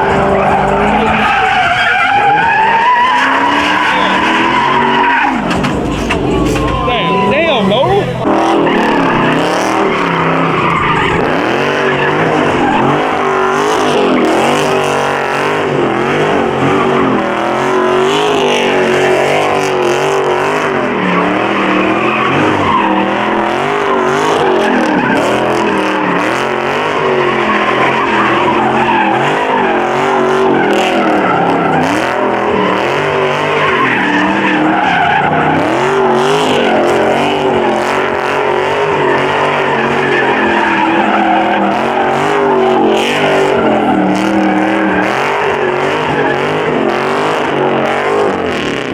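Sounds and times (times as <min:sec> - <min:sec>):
tyres squealing: 0:00.0 - 0:47.8
car engine revving: 0:00.0 - 0:48.9.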